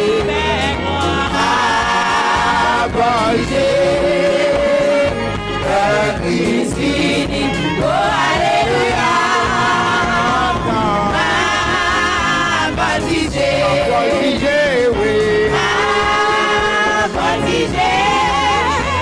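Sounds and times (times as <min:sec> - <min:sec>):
choir singing gospel song: 0:00.0 - 0:19.0
instrumental accompaniment: 0:00.0 - 0:19.0.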